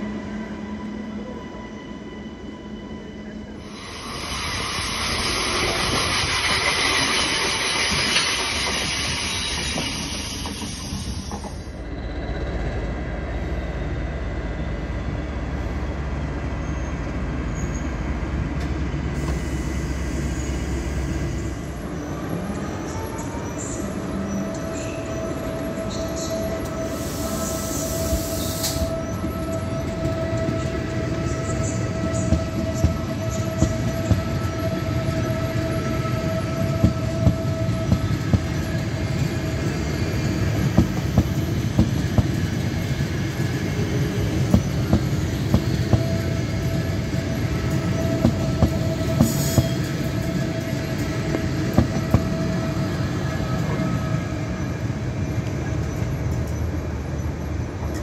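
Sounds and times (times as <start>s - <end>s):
electric train whine: 0.0s - 58.0s
train rolling rumble: 0.0s - 58.0s.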